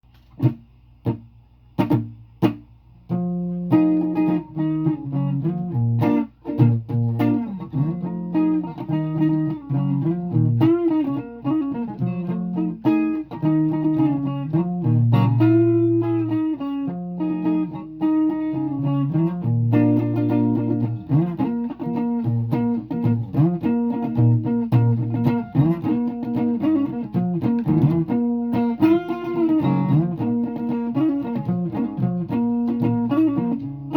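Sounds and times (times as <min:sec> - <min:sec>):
guitar playing: 0:00.4 - 0:33.9.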